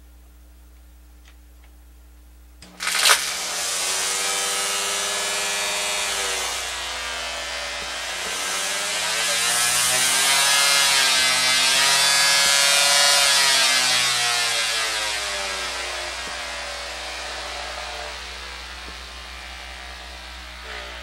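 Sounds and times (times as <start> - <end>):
electric string trimmer motor whine: 2.6 - 21.0.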